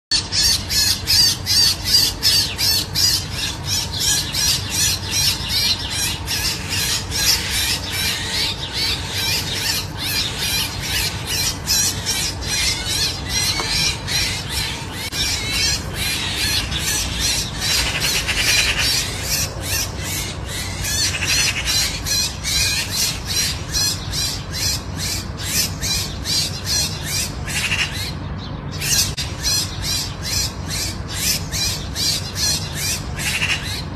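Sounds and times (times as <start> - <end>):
flock of birds calling: 0.1 - 33.9.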